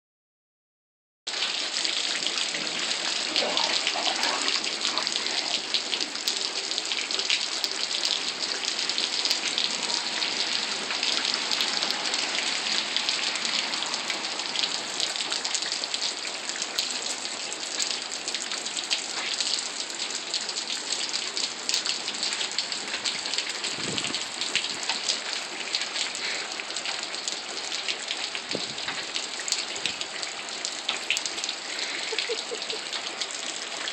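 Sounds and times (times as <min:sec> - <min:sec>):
rain on wet pavement: 0:01.3 - 0:33.9.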